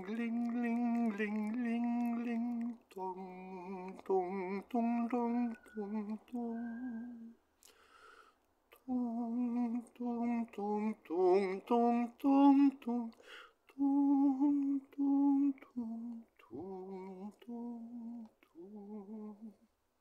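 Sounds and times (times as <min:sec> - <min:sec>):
person humming a slow tune: 0:00.0 - 0:07.4, 0:08.8 - 0:13.1, 0:13.7 - 0:19.6.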